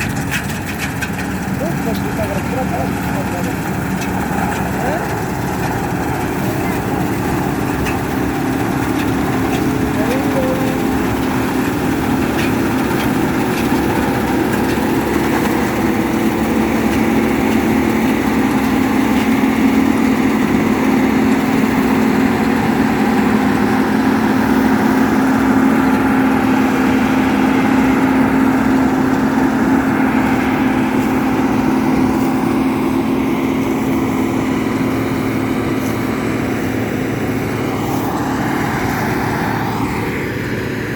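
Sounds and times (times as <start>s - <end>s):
diesel engine running steadily: 0.0s - 40.9s.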